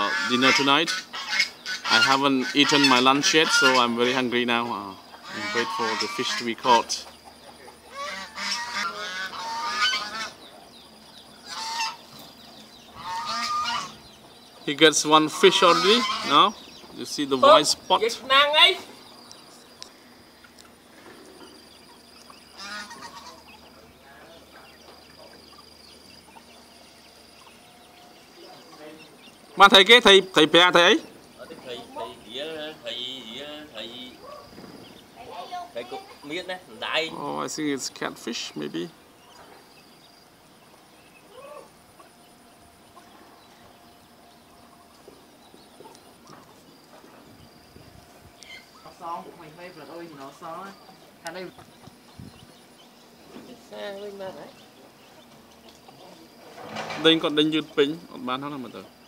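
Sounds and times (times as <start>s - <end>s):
distant poultry call: 0.0s - 59.0s
faint bird chirps: 0.0s - 59.0s
faint steady hiss: 0.0s - 59.0s.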